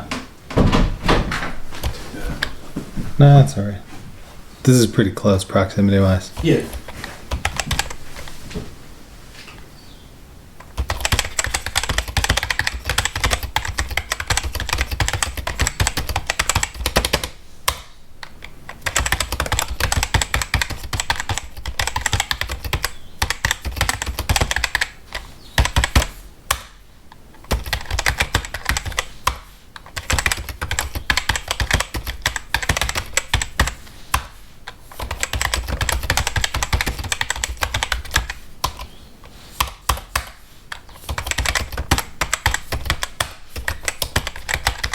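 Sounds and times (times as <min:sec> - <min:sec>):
computer keyboard typing: 0:06.3 - 0:08.2, 0:10.6 - 0:44.9.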